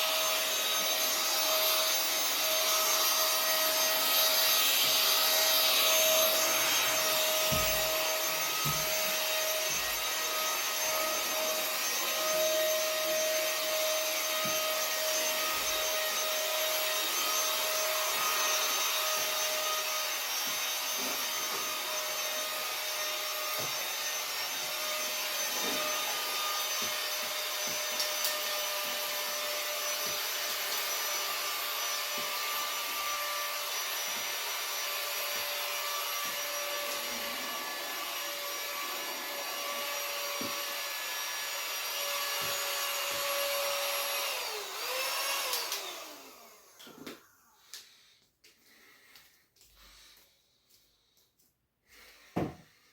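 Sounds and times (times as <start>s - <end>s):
vacuum cleaner running: 0.0s - 47.6s.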